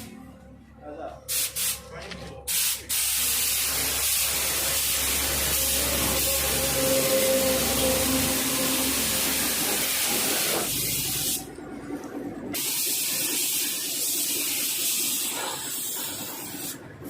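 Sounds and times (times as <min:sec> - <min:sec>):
compressed air hissing: 0:01.3 - 0:01.8, 0:02.5 - 0:11.4, 0:12.6 - 0:16.9.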